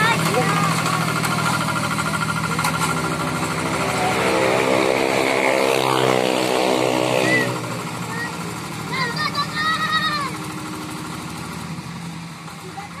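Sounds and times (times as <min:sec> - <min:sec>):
hand tractor engine running: 0:00.0 - 0:05.9, 0:07.3 - 0:13.0.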